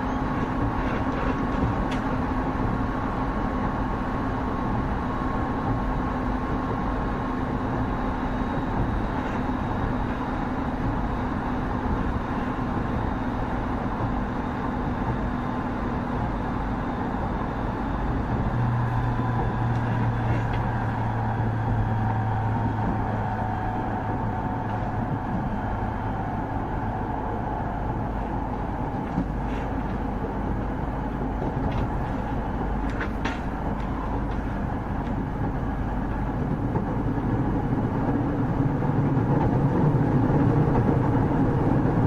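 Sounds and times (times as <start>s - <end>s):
low hum: 0.0s - 42.0s
train wheels rumbling on rail: 0.0s - 42.0s.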